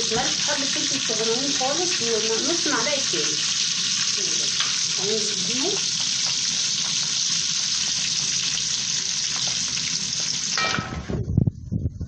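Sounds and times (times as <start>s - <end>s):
spices sizzling in hot oil: 0.0s - 10.8s.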